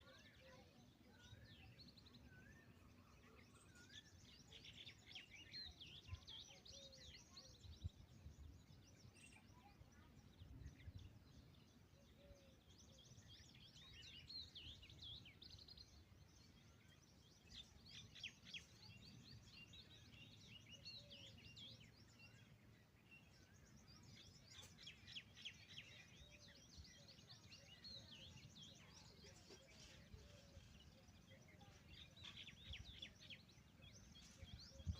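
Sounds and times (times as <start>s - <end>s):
small birds chirping and trilling: 0.0s - 34.9s.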